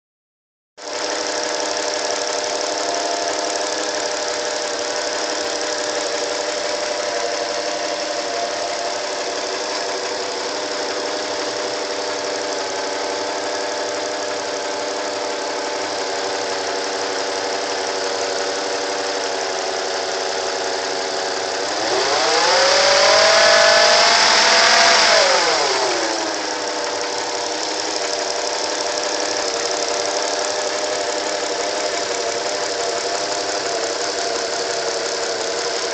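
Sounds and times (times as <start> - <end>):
car engine idling and revving: 0.8 - 35.9.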